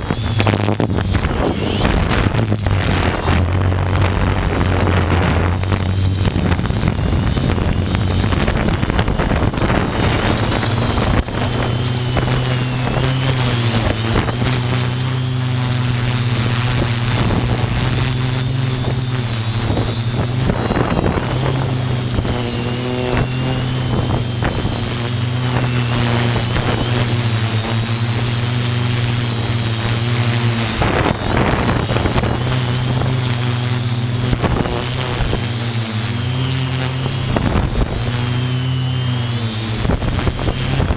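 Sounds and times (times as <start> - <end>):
drone motors humming and whining: 0.0 - 40.9
wind buffeting microphone: 0.0 - 40.9.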